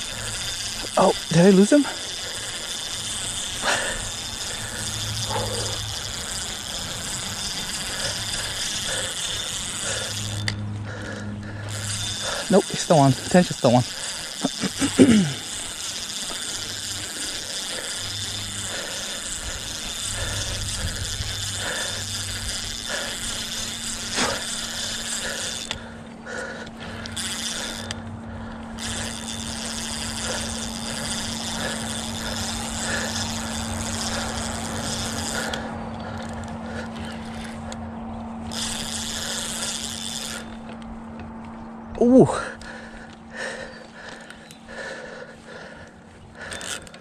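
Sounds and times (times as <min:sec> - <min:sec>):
spinning reel winding: 0:00.0 - 0:37.8, 0:38.4 - 0:40.9, 0:46.4 - 0:47.0.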